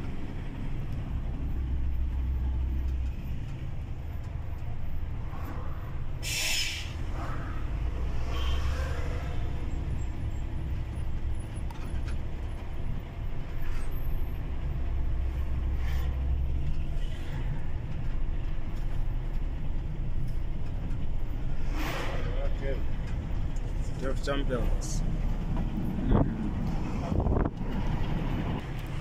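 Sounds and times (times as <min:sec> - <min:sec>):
road and tyre noise: 0:00.0 - 0:29.0
truck engine rumble: 0:00.0 - 0:29.0.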